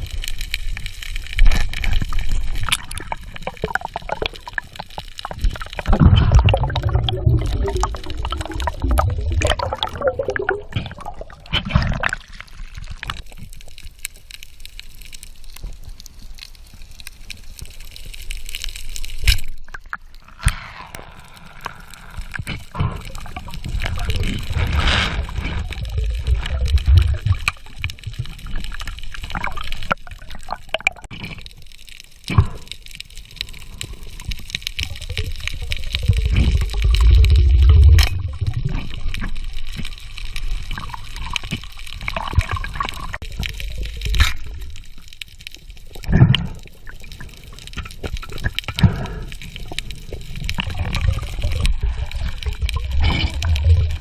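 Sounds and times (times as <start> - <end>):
water gurgling underwater: 0.0 - 15.0, 19.5 - 31.7, 32.3 - 54.0.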